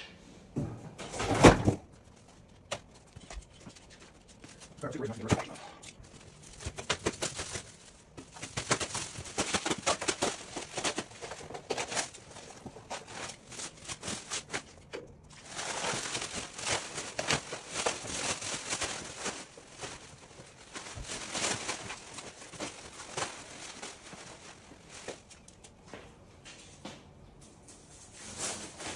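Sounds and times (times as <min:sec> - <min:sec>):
plastic wrapping crinkling: 0:01.7 - 0:25.9, 0:27.8 - 0:28.9.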